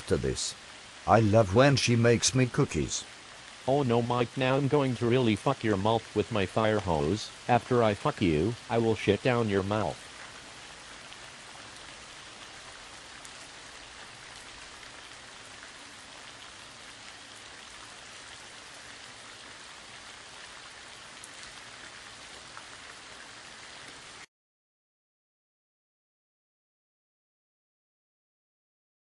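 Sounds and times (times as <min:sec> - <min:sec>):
steady hiss: 0:00.0 - 0:24.2.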